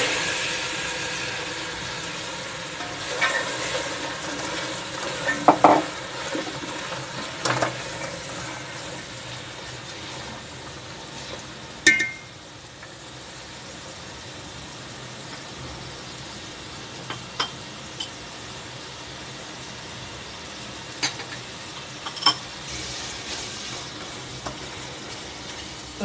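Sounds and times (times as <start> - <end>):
food sizzling in pot: 0.0 - 26.0.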